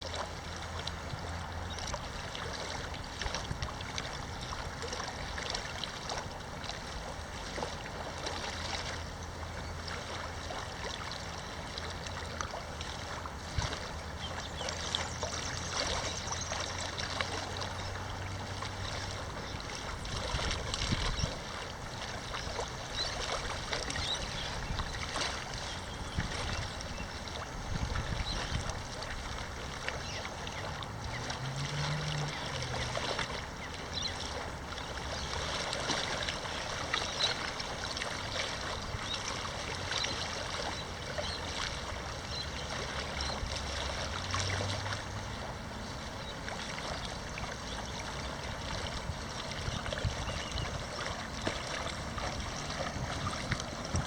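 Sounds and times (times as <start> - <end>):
paddle splashing in water: 0.0 - 54.0
water trickling: 0.0 - 54.0.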